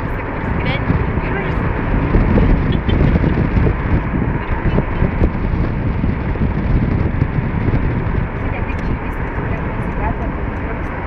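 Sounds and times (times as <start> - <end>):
car road noise: 0.0 - 11.0
wind buffeting microphone: 0.0 - 11.0.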